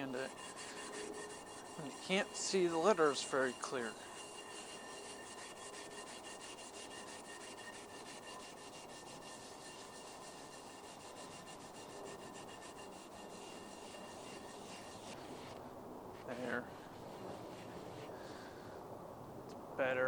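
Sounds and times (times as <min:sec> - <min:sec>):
wire brush scrubbing metal: 0:00.0 - 0:15.6, 0:16.2 - 0:18.2.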